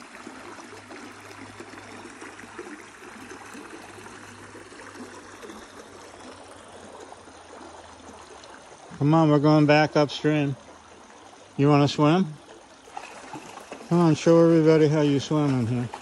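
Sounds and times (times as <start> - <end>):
creek water trickling over stones: 0.0 - 16.0.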